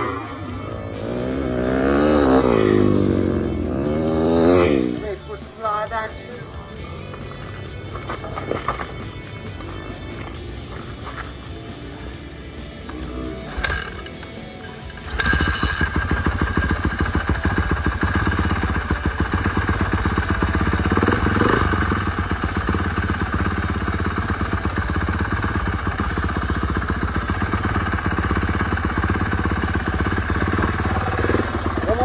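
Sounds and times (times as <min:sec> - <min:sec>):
motocross bike engine idling: 0:00.0 - 0:32.0.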